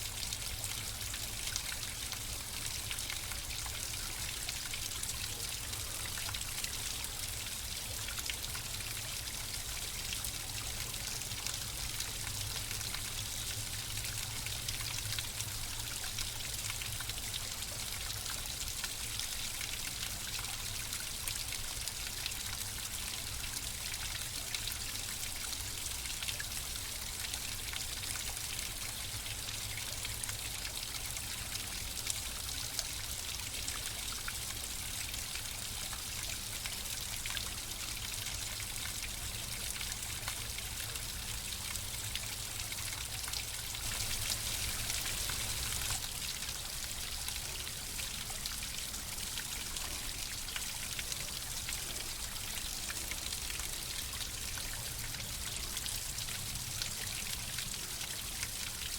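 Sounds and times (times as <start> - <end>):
water flowing over stones: 0.0 - 58.9.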